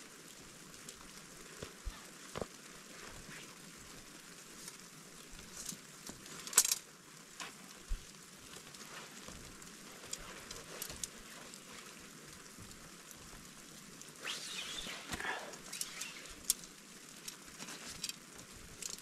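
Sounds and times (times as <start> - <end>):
rain and wet snow hiss: 0.0 - 19.0.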